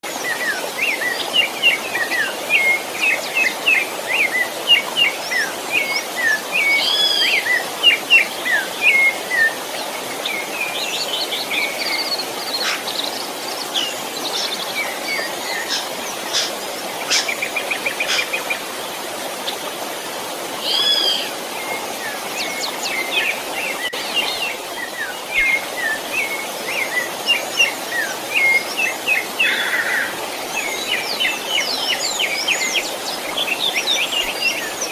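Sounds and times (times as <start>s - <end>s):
birds chirping and warbling: 0.1s - 20.0s, 20.6s - 34.9s.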